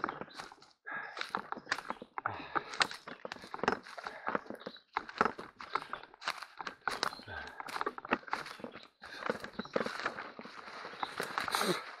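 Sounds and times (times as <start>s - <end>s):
footsteps crunching leaves and twigs: 0.0s - 12.0s.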